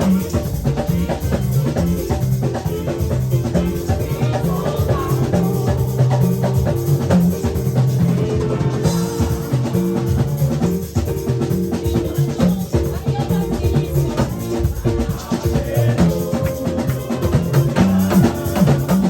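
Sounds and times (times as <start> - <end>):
drum kit steady beat: 0.0 - 19.0
sustained bass and keyboard: 0.0 - 19.0.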